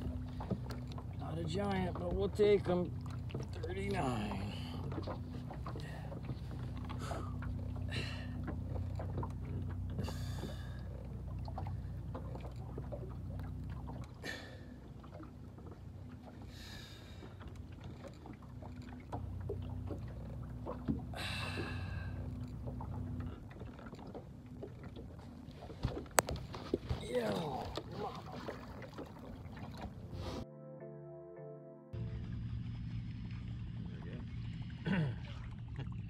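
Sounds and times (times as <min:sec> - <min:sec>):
boat motor humming: 0:00.0 - 0:31.2, 0:31.9 - 0:36.0.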